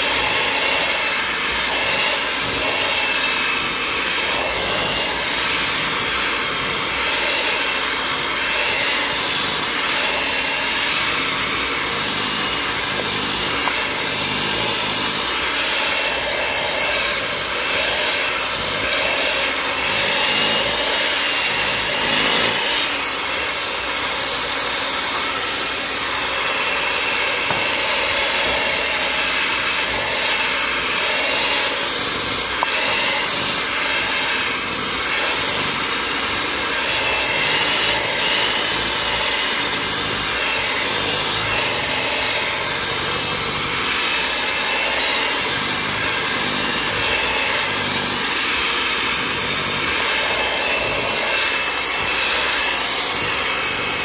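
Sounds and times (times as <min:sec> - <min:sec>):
electric mixer whirring: 0:00.0 - 0:54.0.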